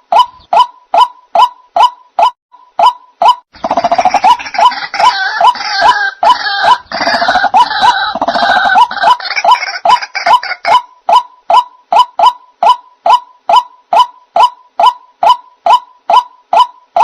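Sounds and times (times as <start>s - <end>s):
jumble of bird calls: 0.0s - 17.0s.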